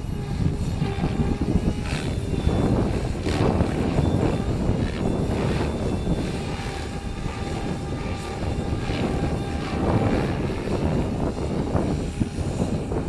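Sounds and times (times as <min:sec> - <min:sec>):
rc helicopter rotor whine: 0:00.0 - 0:13.0
wind buffeting microphone: 0:00.0 - 0:13.0.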